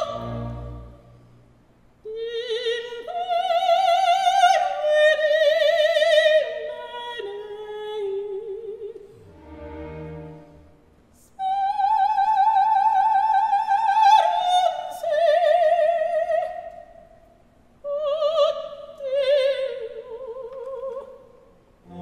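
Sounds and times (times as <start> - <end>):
operatic soprano singing: 0.0 - 1.1, 2.0 - 9.2, 11.2 - 17.0, 17.8 - 22.0.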